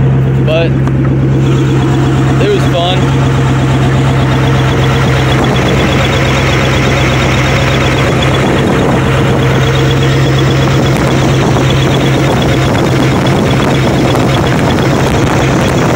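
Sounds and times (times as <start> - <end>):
engine idling loudly: 0.0 - 15.9.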